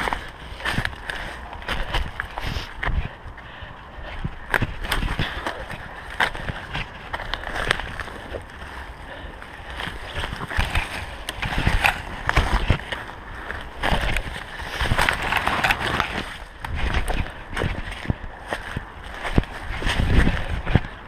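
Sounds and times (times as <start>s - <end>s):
leaves and branches swishing: 4.1s - 21.0s.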